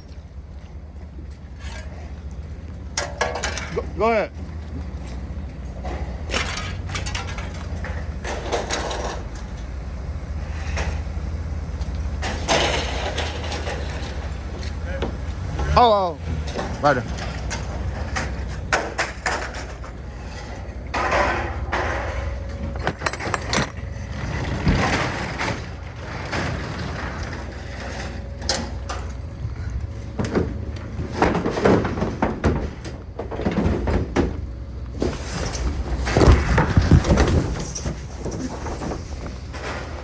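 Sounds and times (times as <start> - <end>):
vehicle engine rumbling: 0.0 - 40.0
clattering and scraping: 1.2 - 3.9, 4.8 - 40.0.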